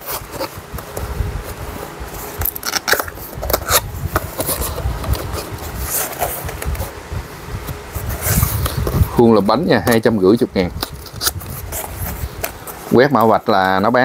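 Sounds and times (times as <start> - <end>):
objects scraping and rustling: 0.0 - 7.0, 7.6 - 14.0.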